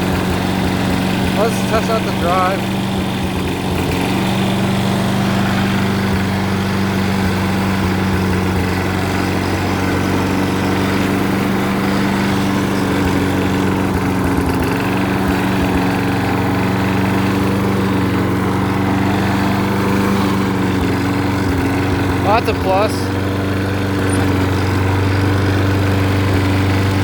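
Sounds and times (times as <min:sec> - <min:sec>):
mower engine running: 0:00.0 - 0:27.0.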